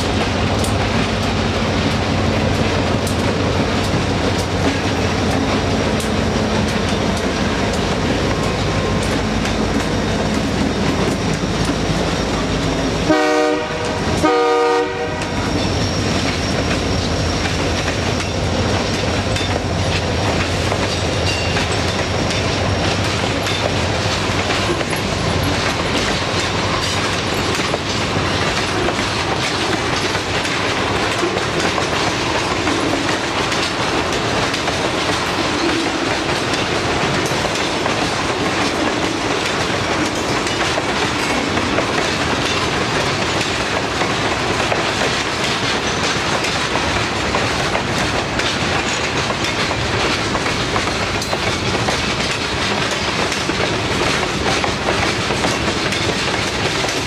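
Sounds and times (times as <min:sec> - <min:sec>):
steel wheels clicking over rail joints: 0:00.0 - 0:14.3, 0:15.0 - 0:57.0
rumble of rolling train cars: 0:00.0 - 0:57.0.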